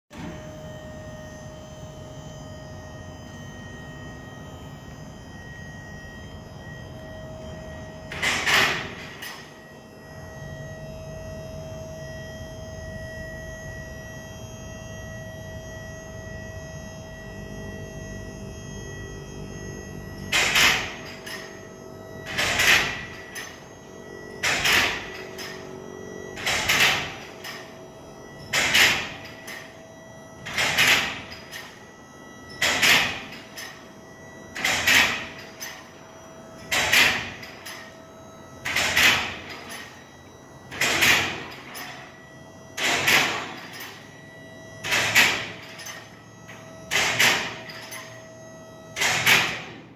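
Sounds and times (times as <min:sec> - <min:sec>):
lift motor hum with whine: 0:00.1 - 0:49.9.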